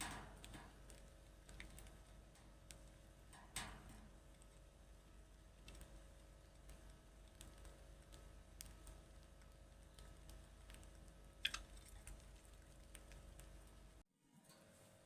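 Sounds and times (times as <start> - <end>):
faint scattered clicks: 0.0 - 4.7, 5.4 - 14.0.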